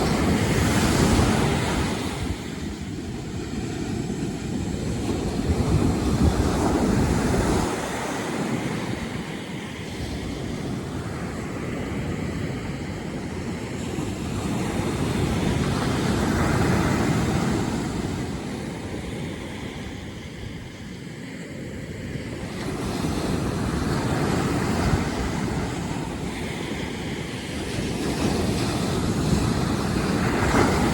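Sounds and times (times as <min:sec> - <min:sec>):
sea waves washing in: 0:00.0 - 0:30.9
wind rumbling on microphone: 0:00.0 - 0:30.9.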